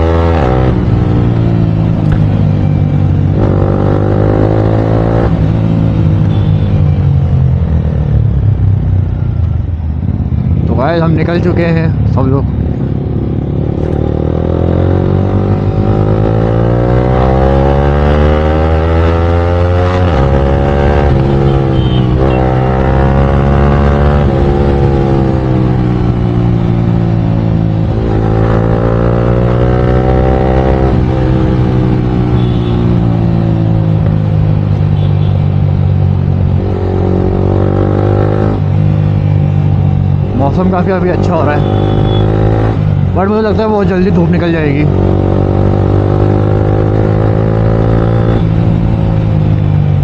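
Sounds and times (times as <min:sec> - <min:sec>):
motorcycle engine accelerating: 0:00.0 - 0:06.5, 0:07.1 - 0:50.0.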